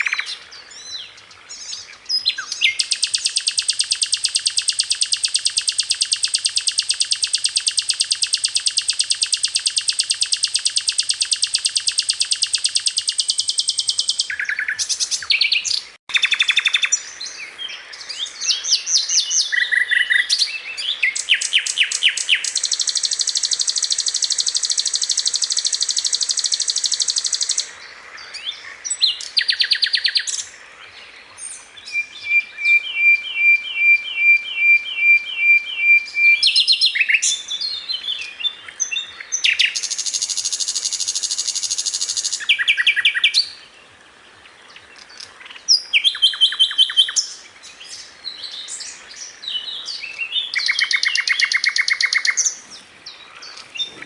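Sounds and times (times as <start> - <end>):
bird chirps and trills: 0.0 - 43.8, 44.6 - 54.0.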